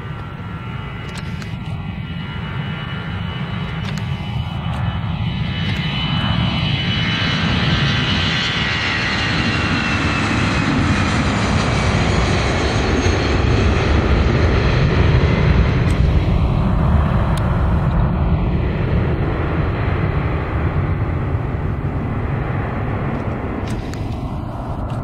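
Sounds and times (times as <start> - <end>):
deep jet rumble: 0.0 - 25.0
jet engine fan whine: 0.0 - 25.0.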